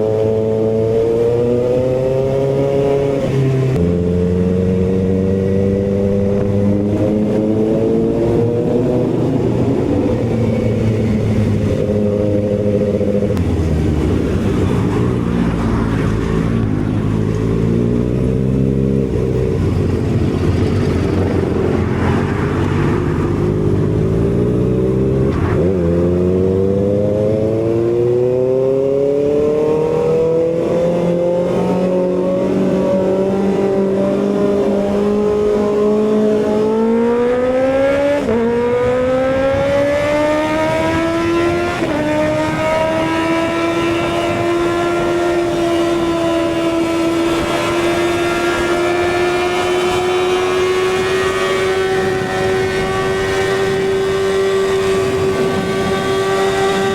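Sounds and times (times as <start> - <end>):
motorcycle engine revving through gears: 0.0 - 56.9.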